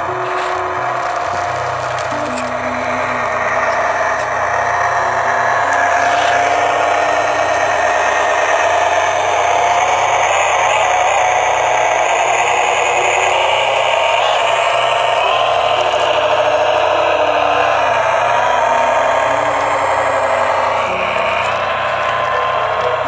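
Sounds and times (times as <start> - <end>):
toy truck motor whirring: 0.0 - 23.0.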